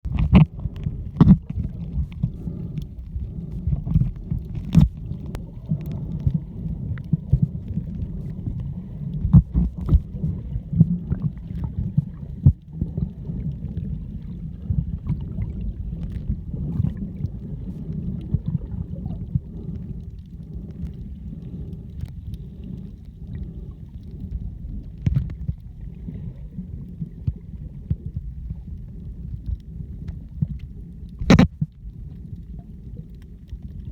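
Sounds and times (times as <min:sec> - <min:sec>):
boat rumble: 0:00.0 - 0:29.2.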